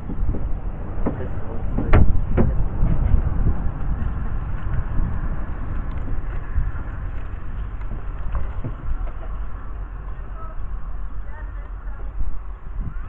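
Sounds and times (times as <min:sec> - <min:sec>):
railway coach rumbling: 0:00.0 - 0:13.0.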